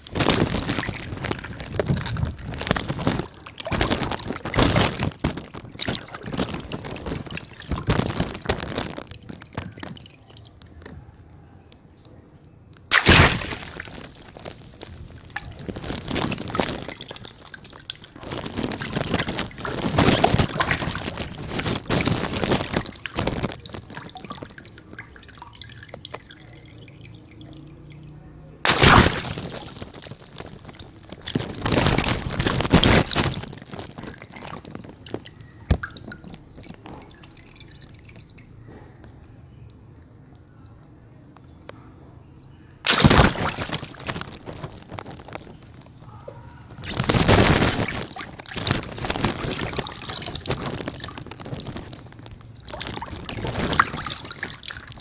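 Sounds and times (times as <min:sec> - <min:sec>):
water balloons bursting: 0:00.0 - 0:11.0, 0:12.8 - 0:28.0, 0:28.6 - 0:38.8, 0:42.8 - 0:55.0
water pouring and splashing: 0:00.0 - 0:11.0, 0:12.8 - 0:38.8, 0:42.8 - 0:55.0.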